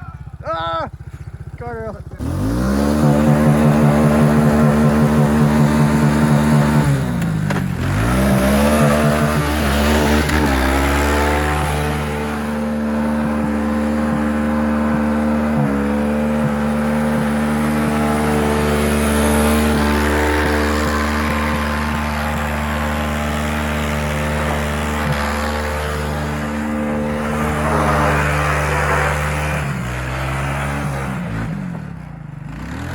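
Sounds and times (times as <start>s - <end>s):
engine revving high: 2.2s - 32.9s.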